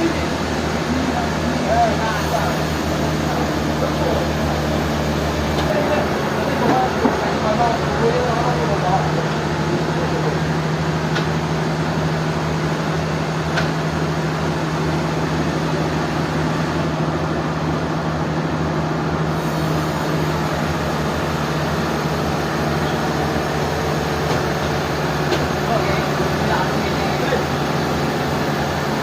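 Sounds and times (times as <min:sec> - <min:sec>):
sawmill machinery droning: 0:00.0 - 0:29.0.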